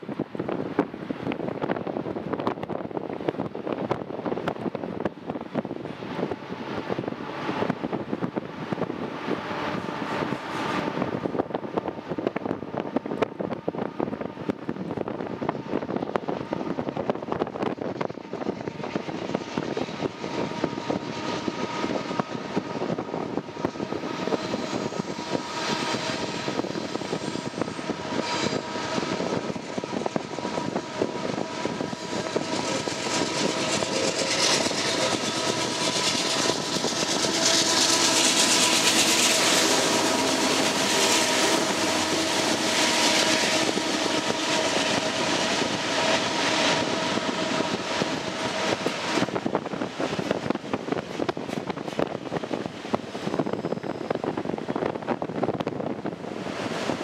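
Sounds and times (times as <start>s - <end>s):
locomotive engine drone: 0.0s - 57.0s
train rolling noise: 0.0s - 57.0s
steady high whine: 4.0s - 57.0s.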